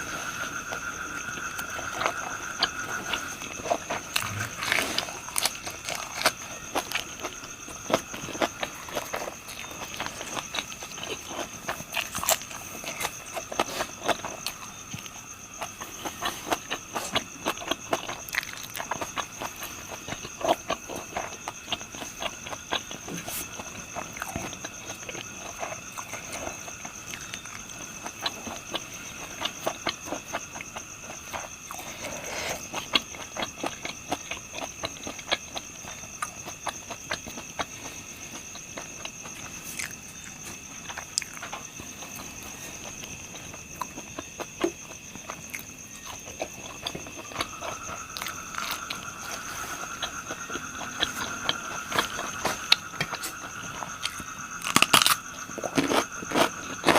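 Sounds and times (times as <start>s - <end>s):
crunching and smacking while chewing: 0.0s - 56.9s.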